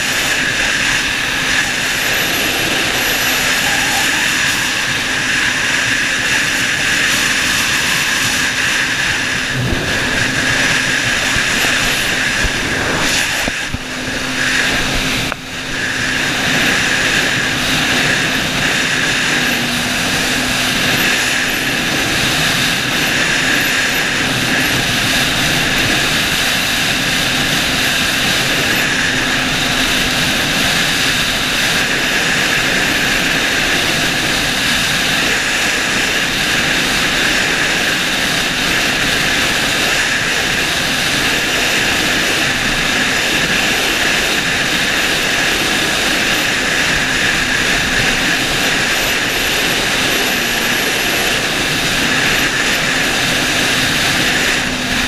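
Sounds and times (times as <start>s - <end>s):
jet ski engine drone: 0.0s - 55.0s
rush of wind and water: 0.0s - 55.0s.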